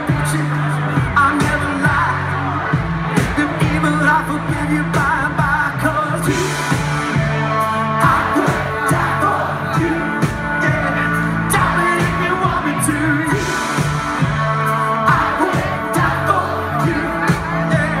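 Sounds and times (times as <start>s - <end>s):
bass line: 0.0s - 18.0s
drums: 0.0s - 18.0s
electric guitars: 0.0s - 18.0s
person singing: 0.0s - 18.0s.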